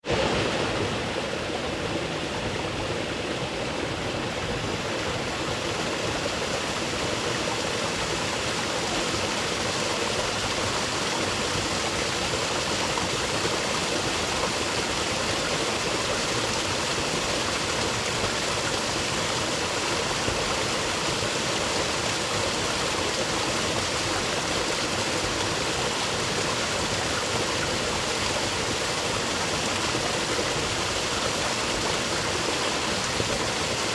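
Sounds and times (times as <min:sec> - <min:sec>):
water flowing over rocks: 0:00.0 - 0:33.9.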